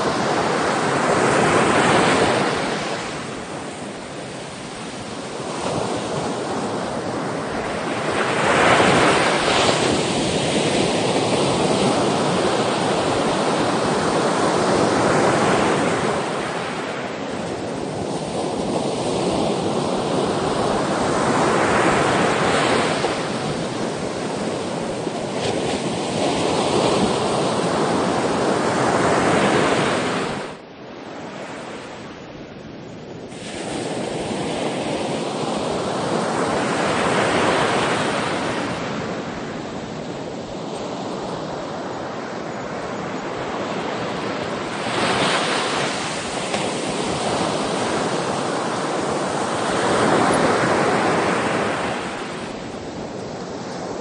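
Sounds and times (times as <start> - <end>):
sea waves breaking on shore: 0.0 - 32.4, 33.2 - 54.0.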